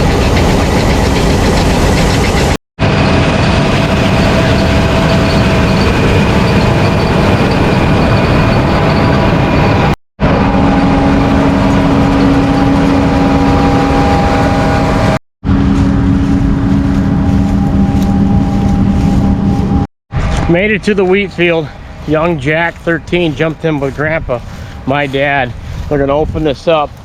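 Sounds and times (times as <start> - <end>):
large vehicle engine running: 0.0 - 27.0
steady engine hum: 0.0 - 27.0.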